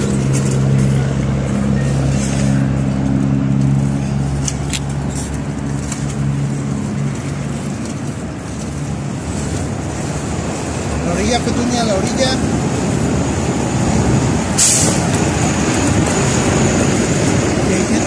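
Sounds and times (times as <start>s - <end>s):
nearby vehicle engine hum: 0.0s - 18.0s
passing cars: 0.0s - 18.0s.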